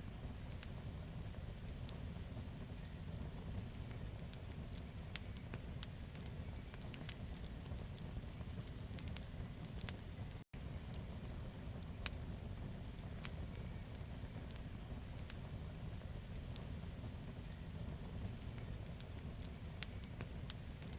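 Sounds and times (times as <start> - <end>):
campfire crackling and popping: 0.0 - 20.9
low rumble of flames: 0.0 - 20.9.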